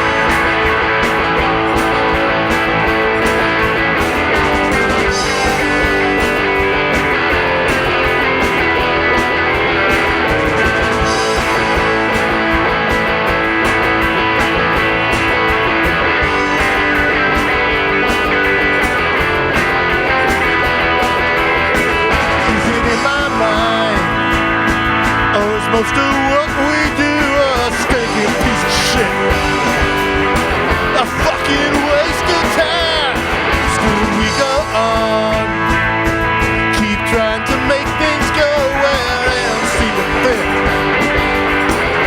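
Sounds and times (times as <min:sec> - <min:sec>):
drums steady beat: 0:00.0 - 0:42.0
electric guitar: 0:00.0 - 0:42.0.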